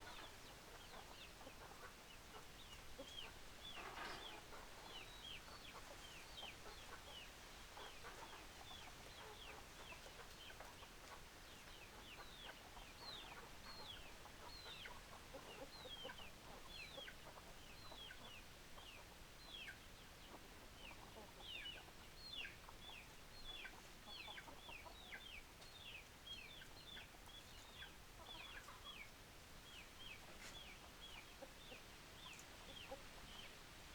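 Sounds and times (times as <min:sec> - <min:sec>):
chickens peeping: 0:00.0 - 0:33.6.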